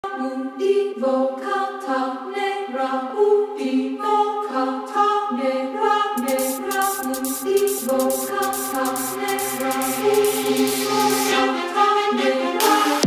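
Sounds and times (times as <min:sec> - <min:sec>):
a cappella voices in harmony: 0:00.0 - 0:13.0.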